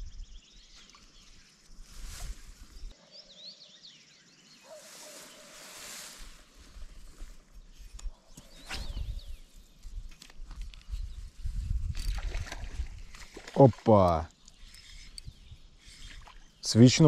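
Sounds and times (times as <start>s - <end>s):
small birds chirping: 0.0s - 11.9s, 13.1s - 17.0s.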